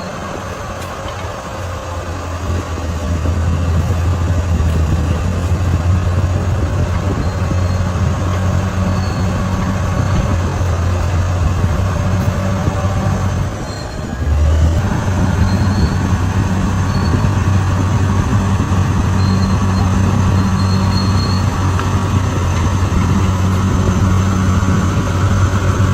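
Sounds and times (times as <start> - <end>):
bulldozer diesel engine running: 0.0 - 25.9.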